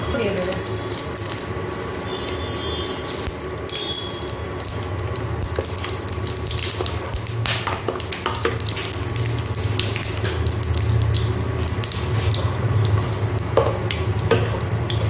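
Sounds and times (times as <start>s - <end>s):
spices sizzling and crackling in oil: 0.1s - 15.0s.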